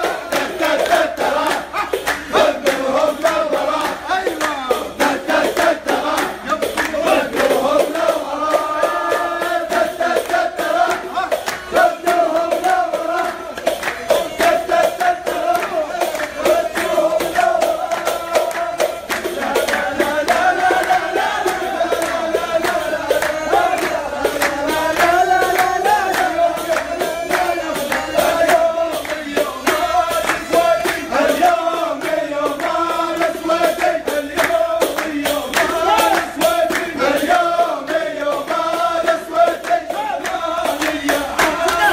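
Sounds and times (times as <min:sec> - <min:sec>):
hand clapping: 0:00.0 - 0:41.9
men chanting in unison: 0:00.0 - 0:41.9.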